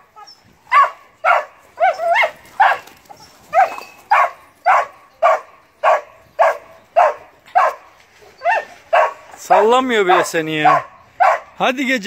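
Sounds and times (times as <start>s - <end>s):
dog barking: 0.7s - 2.9s, 3.5s - 11.6s.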